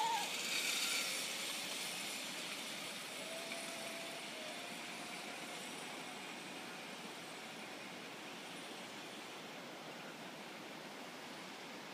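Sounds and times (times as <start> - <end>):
zip line trolley hissing on cable: 0.0 - 11.9.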